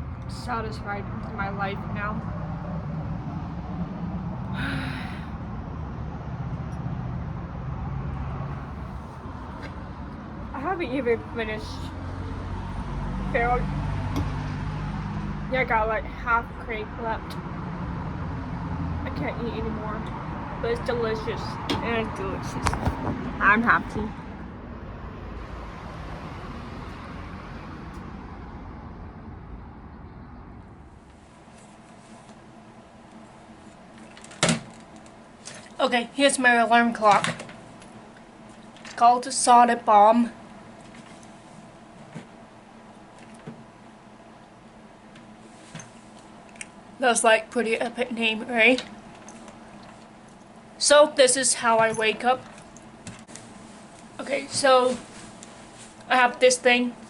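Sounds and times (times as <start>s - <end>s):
background rumble and hiss: 0.0s - 57.0s
road traffic engine hum: 0.0s - 57.0s.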